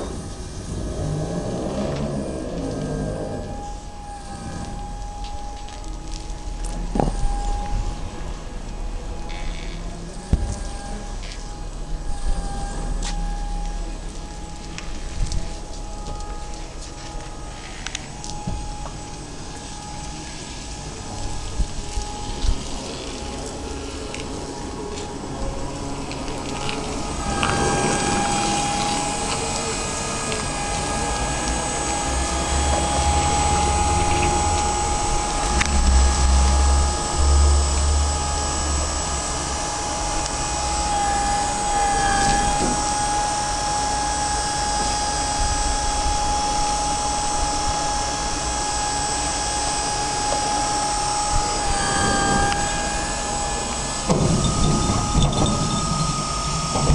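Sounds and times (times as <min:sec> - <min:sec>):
deep rumble: 0:00.0 - 0:49.2
continuous machine hum: 0:00.0 - 0:56.9
hydraulic drive high whine: 0:00.0 - 0:56.9.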